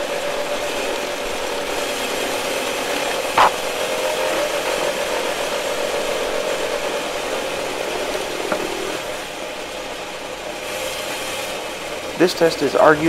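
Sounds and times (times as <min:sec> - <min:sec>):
reciprocating saw motor whine: 0:00.0 - 0:12.2.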